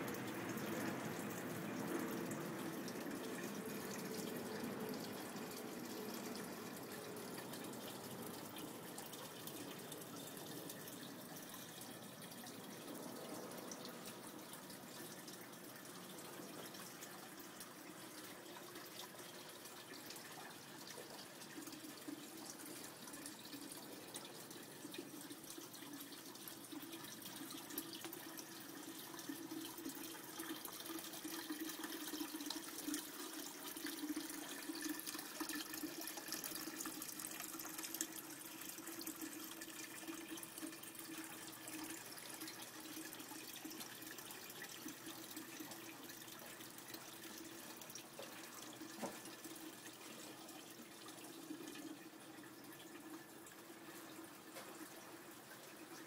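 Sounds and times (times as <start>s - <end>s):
fountain water trickling and splashing: 0.0s - 56.0s.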